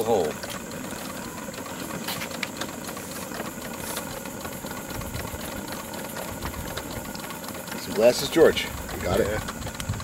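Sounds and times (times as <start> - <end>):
fast ticking rattle: 0.0 - 10.0.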